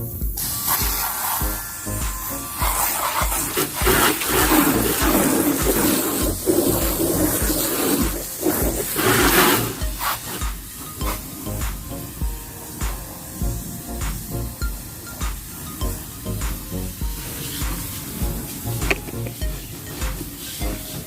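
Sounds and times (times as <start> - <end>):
background music with beat: 0.0 - 21.0
water spraying and splashing: 0.3 - 21.0.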